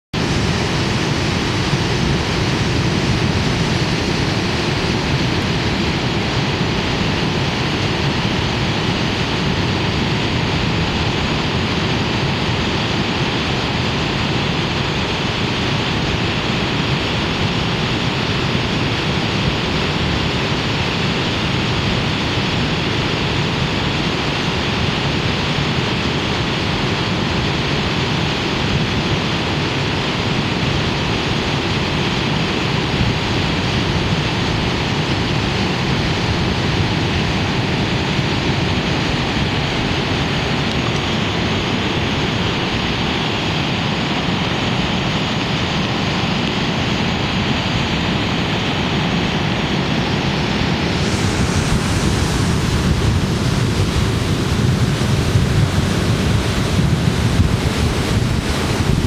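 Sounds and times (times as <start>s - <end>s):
waterfall rushing: 0.2s - 59.0s.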